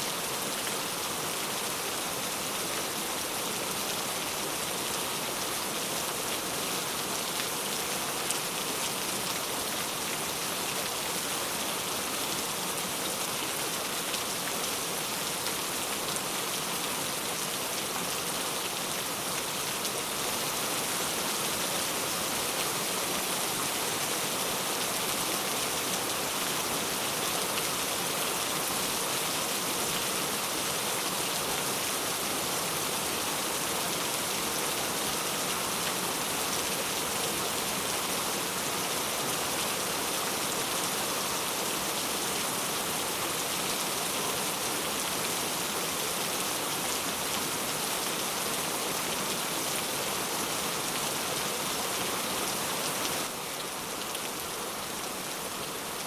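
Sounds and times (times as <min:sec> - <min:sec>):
heavy rain falling: 0:00.1 - 0:56.0.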